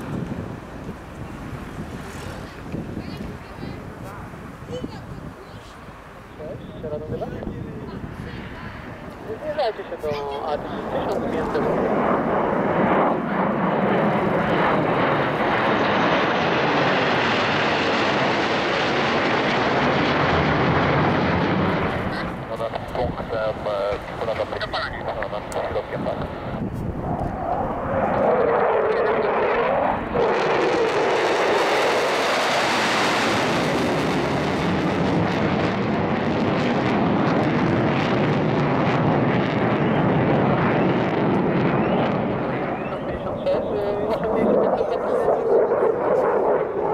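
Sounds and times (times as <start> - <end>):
jet aircraft flying past: 0.0 - 46.9.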